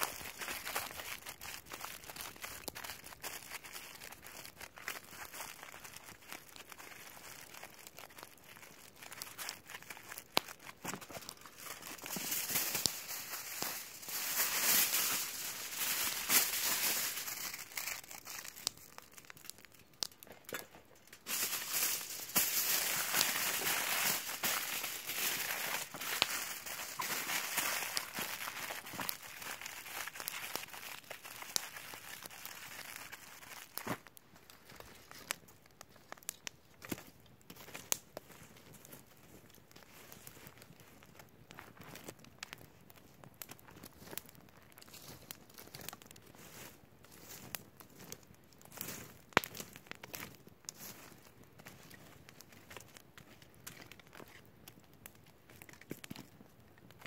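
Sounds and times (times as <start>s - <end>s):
aluminium foil crinkling: 0.0s - 57.0s.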